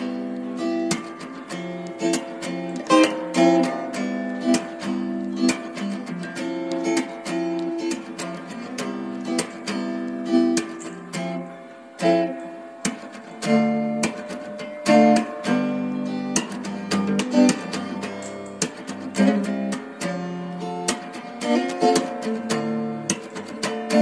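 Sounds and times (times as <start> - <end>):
acoustic guitar music: 0.0 - 24.0.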